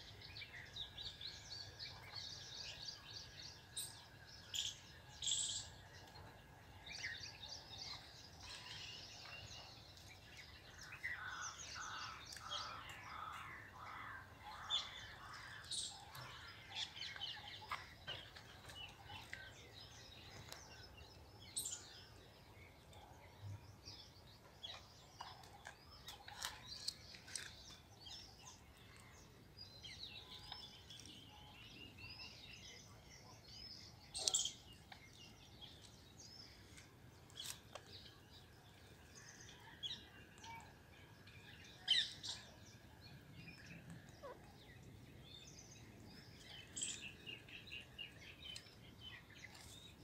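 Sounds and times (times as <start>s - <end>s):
birds chirping and twittering: 0.0s - 50.0s.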